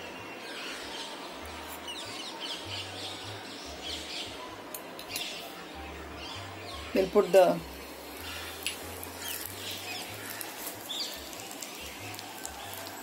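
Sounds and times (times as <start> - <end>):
small birds chirping: 0.0 - 13.0
steady low hiss: 0.0 - 13.0.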